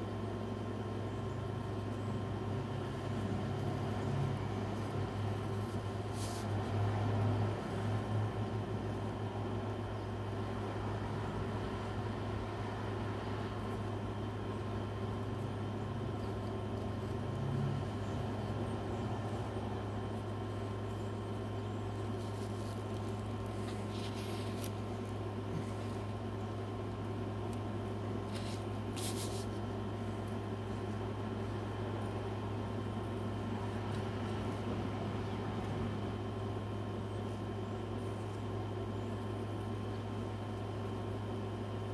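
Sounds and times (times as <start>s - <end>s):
low mechanical hum: 0.0s - 41.9s.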